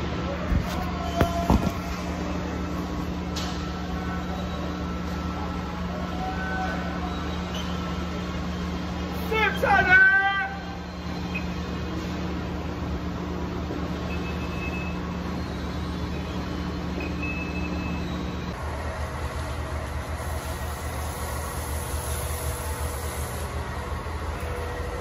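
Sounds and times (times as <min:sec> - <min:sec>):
machinery and ventilation hum: 0:00.0 - 0:25.0.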